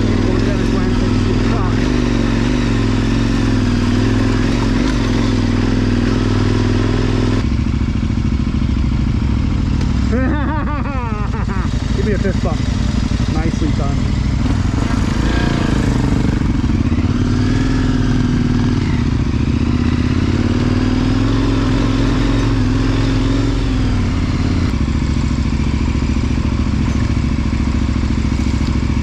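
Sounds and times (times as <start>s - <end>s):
motorcycle engine at low revs: 0.0s - 29.0s.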